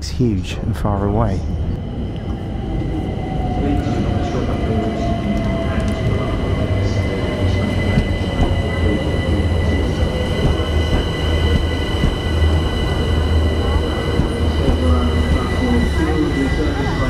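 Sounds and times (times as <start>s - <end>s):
train wheels rumbling on rail: 0.0s - 17.0s
high whine: 1.0s - 17.0s.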